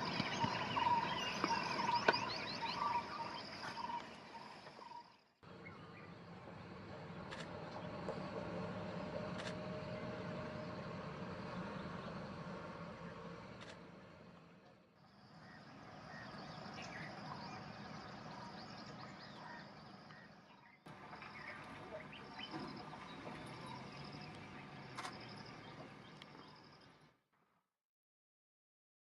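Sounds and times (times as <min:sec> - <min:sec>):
steady outdoor hiss: 0:00.0 - 0:27.1
wild birds chirping: 0:00.0 - 0:27.2.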